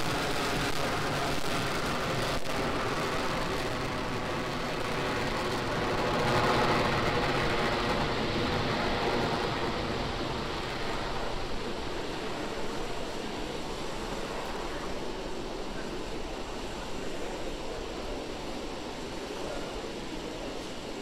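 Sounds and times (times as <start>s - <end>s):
rocket engines roaring: 0.0s - 20.6s.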